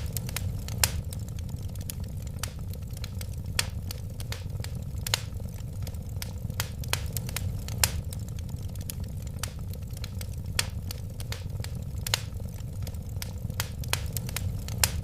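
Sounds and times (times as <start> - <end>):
fire crackles and sharp pops: 0.0 - 15.0
low rush of flame: 0.0 - 15.0.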